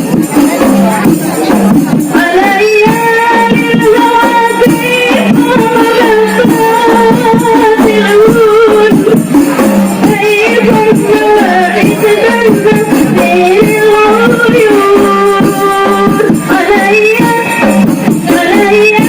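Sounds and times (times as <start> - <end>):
frame drums beating rhythm: 0.0 - 19.0.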